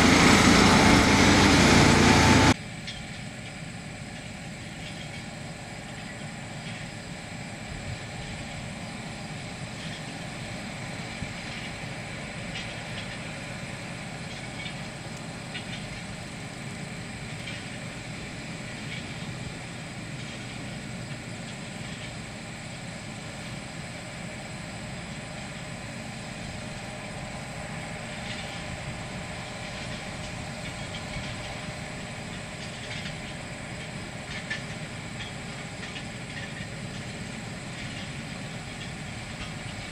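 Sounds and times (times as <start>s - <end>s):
machine engine drone: 0.0s - 39.9s.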